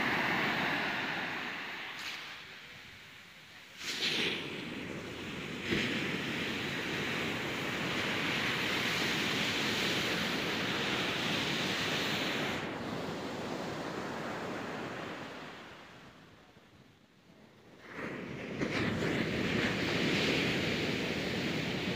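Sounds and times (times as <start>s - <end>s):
wind on microphone: 0.0s - 3.2s, 3.8s - 16.3s, 17.3s - 21.9s
ocean surf rushing: 0.0s - 16.3s, 17.8s - 21.9s.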